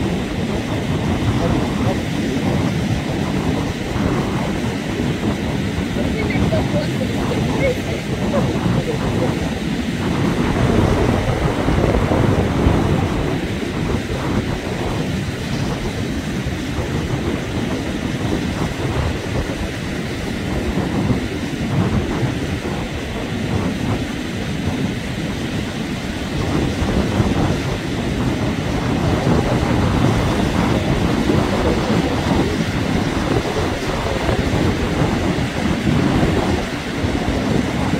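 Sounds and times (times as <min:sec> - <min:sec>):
surf on the shore: 0:00.0 - 0:37.9
wind buffeting microphone: 0:00.0 - 0:37.9.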